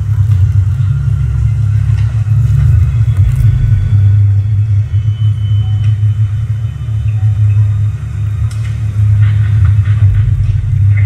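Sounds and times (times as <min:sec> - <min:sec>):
deep rumbling soundtrack drone: 0:00.0 - 0:11.0.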